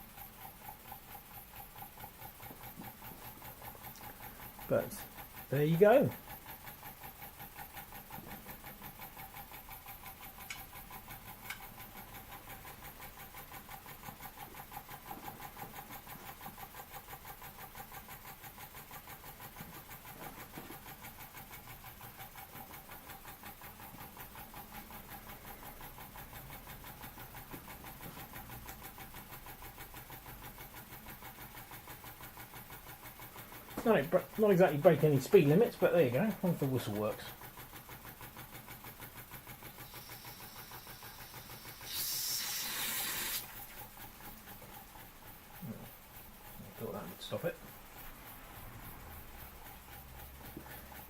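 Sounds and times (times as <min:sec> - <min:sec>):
steam engine exhaust puffs: 0:00.0 - 0:51.0.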